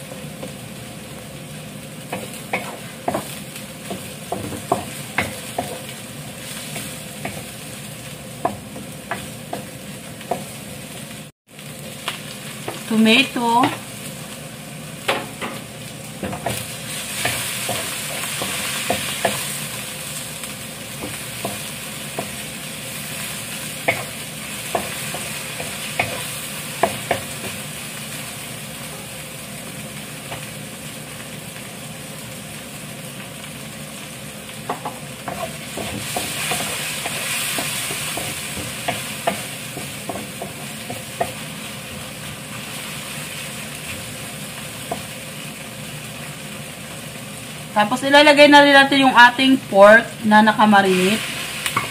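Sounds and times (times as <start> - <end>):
vegetables sizzling in oil: 0.0 - 51.9.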